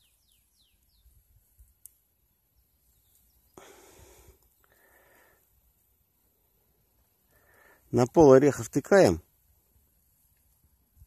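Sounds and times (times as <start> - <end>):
hand rustling soil and grass: 0.0 - 11.0.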